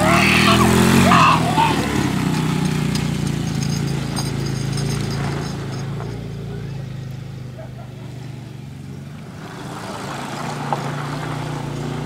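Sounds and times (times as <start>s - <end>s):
small four-wheeler engine running: 0.0s - 12.0s.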